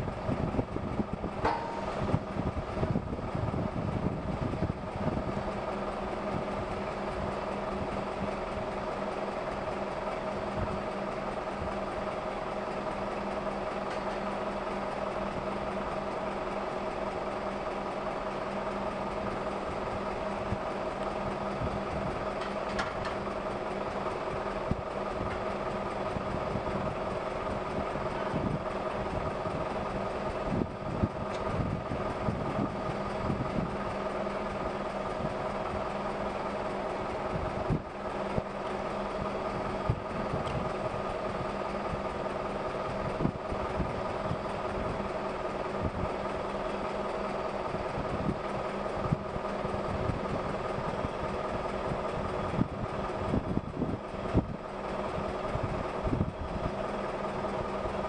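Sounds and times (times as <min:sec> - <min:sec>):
steady mechanical drone: 0:00.0 - 0:58.0.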